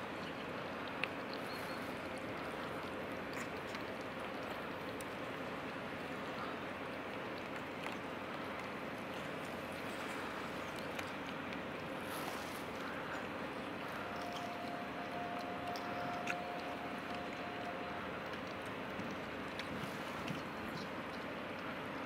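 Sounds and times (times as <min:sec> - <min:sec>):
cats chewing wet food: 0:00.0 - 0:22.0.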